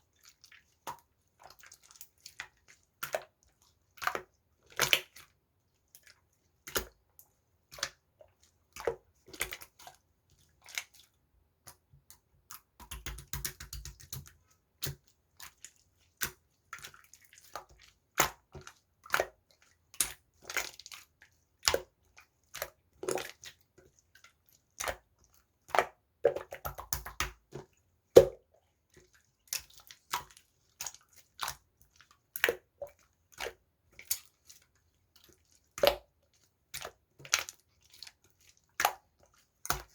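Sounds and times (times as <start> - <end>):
slime squelching: 0.0 - 39.9.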